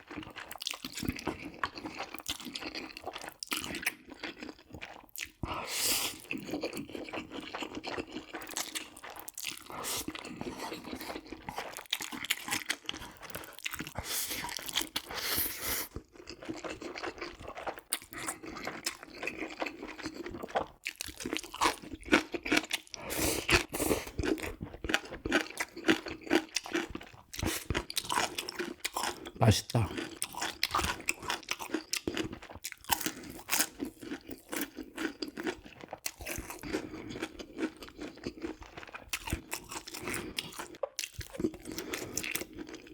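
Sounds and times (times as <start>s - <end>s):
food being crunched and chewed: 0.0s - 5.4s, 6.3s - 15.1s, 15.9s - 42.9s.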